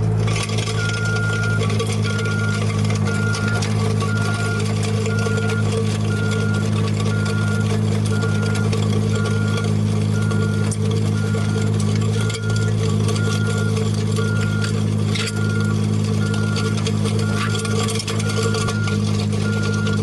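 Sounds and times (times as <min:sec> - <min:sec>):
construction machine engine running: 0:00.0 - 0:20.0
reversing alarm beeping: 0:00.7 - 0:20.0.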